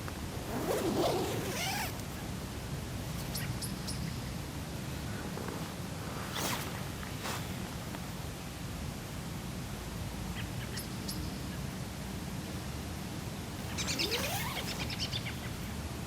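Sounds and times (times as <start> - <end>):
woods background noise: 0.0 - 16.0.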